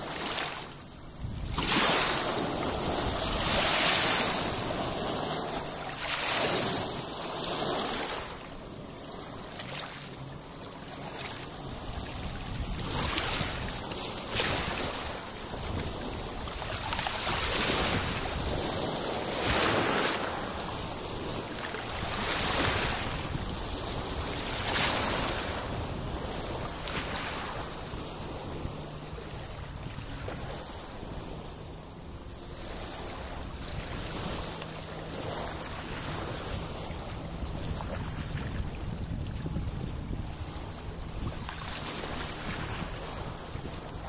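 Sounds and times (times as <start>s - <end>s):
waves washing over stony shore: 0.0s - 44.0s
wind buffeting microphone: 0.0s - 44.0s.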